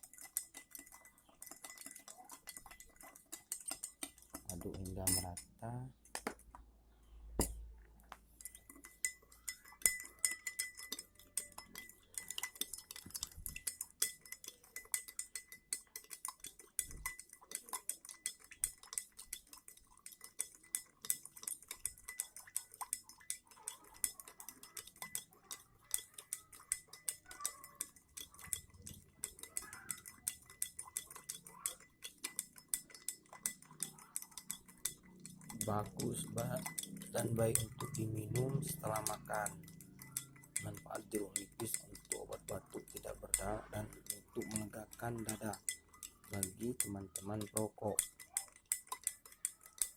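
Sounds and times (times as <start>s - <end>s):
spoon clinking against container: 0.0s - 6.5s, 7.4s - 49.9s.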